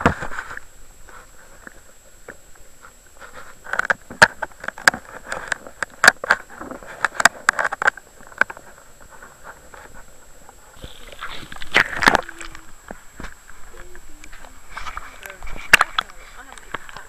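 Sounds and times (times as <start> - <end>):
faint high whine: 0.0 - 17.0
muffled water against camera housing: 0.0 - 17.0.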